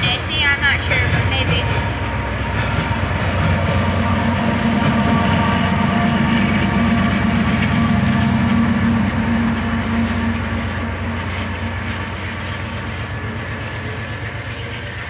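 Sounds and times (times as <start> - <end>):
diesel locomotive engine drone: 0.0 - 15.0
steel wheels rolling on rails: 0.0 - 15.0.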